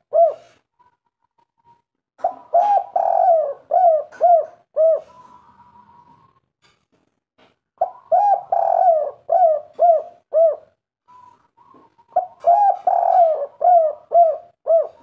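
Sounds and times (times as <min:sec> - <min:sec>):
dove cooing: 0:00.0 - 0:06.5, 0:07.8 - 0:15.0.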